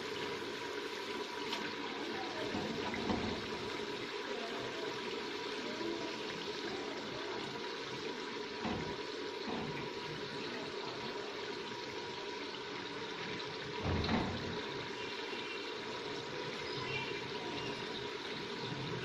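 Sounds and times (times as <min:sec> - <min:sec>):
curry hissing in pot: 0:00.0 - 0:19.0.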